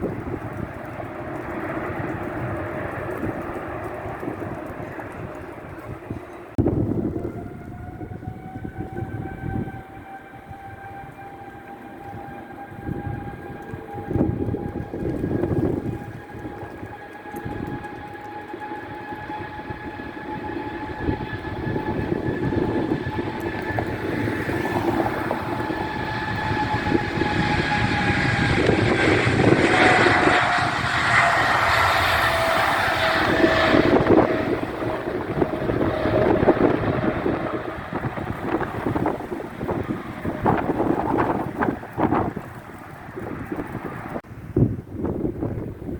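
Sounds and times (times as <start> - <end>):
jet roar: 0.0 - 45.9
jet turbofan whine: 0.0 - 45.9
wind on microphone: 0.0 - 45.9.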